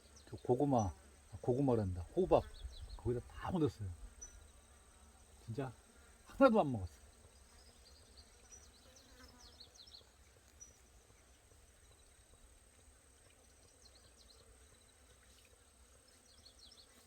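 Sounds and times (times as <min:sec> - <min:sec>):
faint high insect drone: 0:00.0 - 0:17.0.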